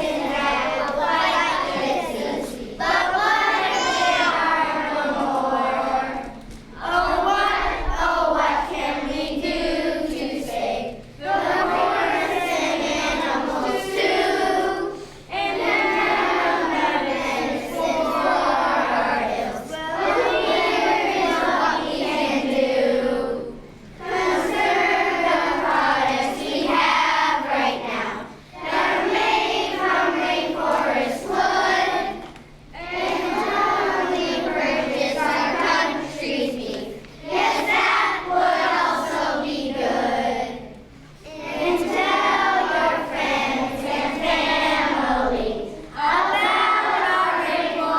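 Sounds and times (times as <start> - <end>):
children's choir singing: 0.0 - 47.9.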